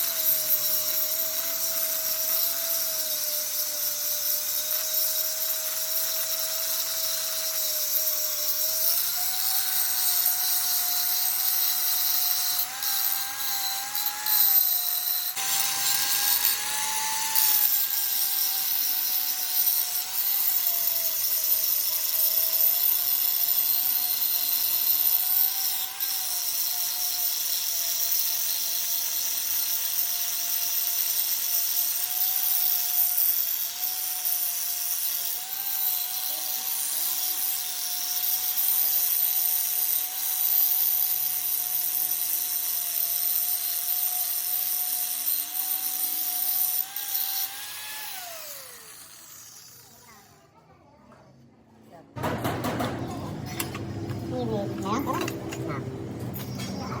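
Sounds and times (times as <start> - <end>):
cutting hiss: 0.0 - 50.3
power tool whine: 0.0 - 50.6, 52.2 - 57.0.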